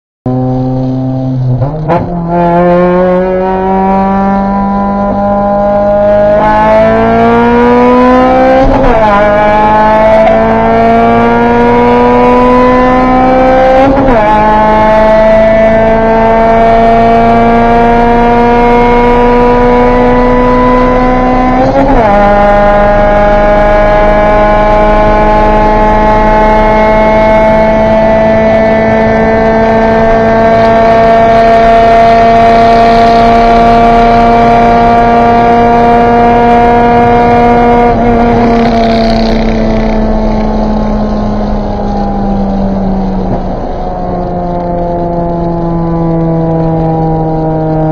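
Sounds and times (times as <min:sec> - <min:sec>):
car engine accelerating hard: 0:00.3 - 0:47.9.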